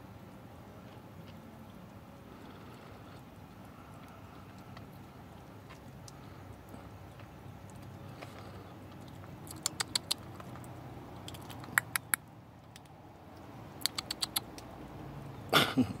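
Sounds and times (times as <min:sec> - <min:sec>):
cats crunching food: 0:00.2 - 0:14.9.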